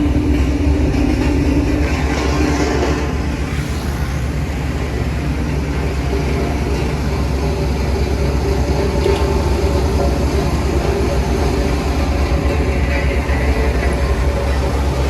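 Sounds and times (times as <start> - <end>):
diesel construction machinery rumbling: 0.0 - 15.0.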